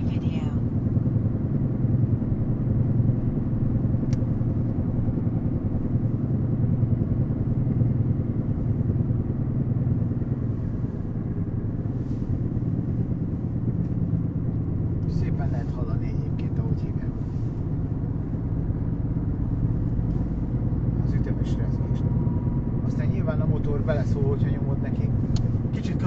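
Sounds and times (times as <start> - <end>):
car cabin drone with vibration: 0.0 - 26.0.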